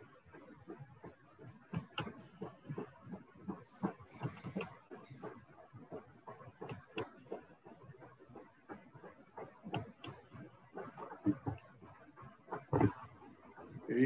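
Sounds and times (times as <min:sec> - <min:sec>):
faint clicks and taps: 0:00.0 - 0:13.9.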